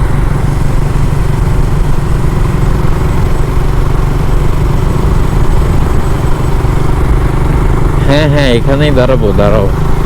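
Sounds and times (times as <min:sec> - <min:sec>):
motorcycle running: 0:00.0 - 0:10.0.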